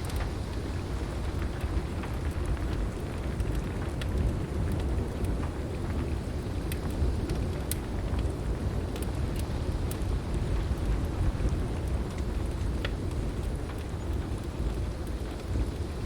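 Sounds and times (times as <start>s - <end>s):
heavy rain: 0.0s - 16.0s
low rumble of thunder: 0.0s - 16.0s
wood fire crackling and popping: 0.0s - 16.0s.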